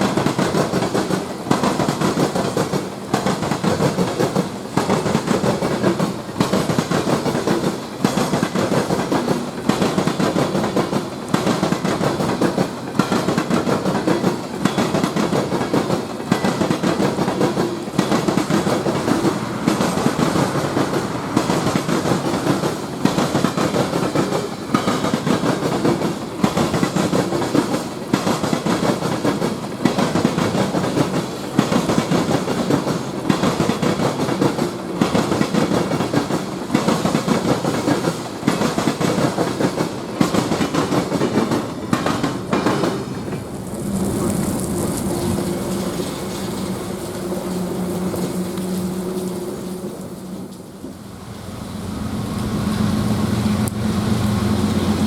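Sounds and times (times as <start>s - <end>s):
train cars rolling on rails: 0.0s - 55.0s.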